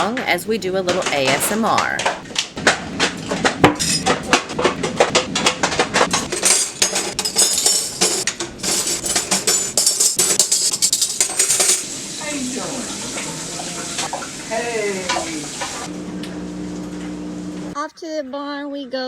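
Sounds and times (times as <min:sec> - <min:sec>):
dishes and cutlery clattering: 0:00.0 - 0:15.9.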